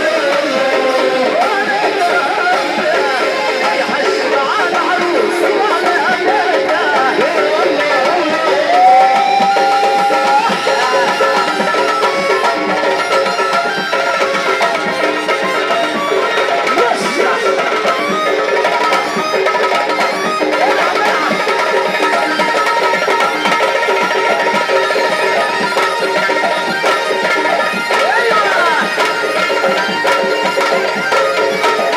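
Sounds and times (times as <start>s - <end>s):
hand drums beating: 0.0s - 31.9s
held melodic line: 0.8s - 31.9s.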